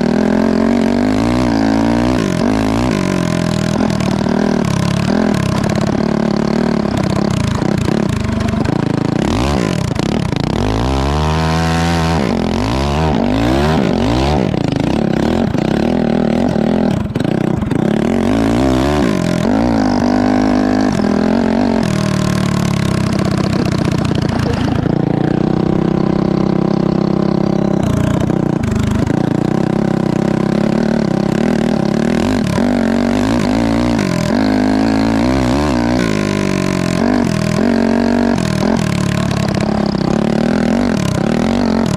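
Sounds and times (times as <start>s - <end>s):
go-kart engine revving: 0.0s - 41.9s.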